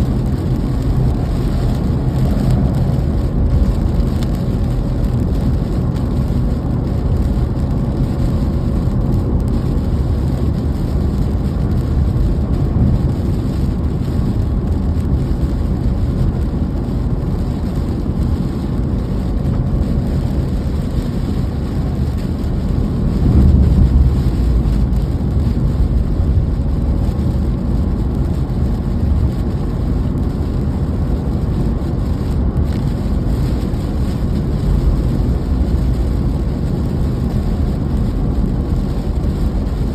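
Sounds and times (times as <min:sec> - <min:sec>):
heavy low rumble: 0:00.0 - 0:39.9
steady rain: 0:00.0 - 0:39.9.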